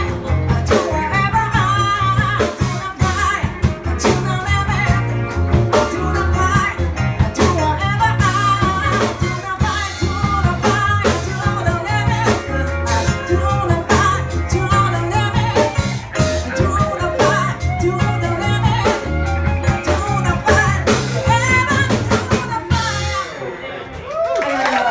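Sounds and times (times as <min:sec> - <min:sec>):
drum kit: 0:00.0 - 0:23.5
person singing: 0:00.0 - 0:23.8
bass line: 0:00.0 - 0:24.2
guitar: 0:00.0 - 0:24.9.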